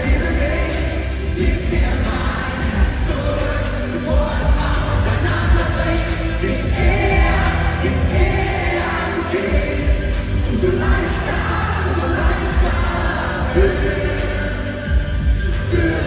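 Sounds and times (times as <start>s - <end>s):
man singing: 0.0s - 16.0s
pop music over loudspeakers: 0.0s - 16.0s.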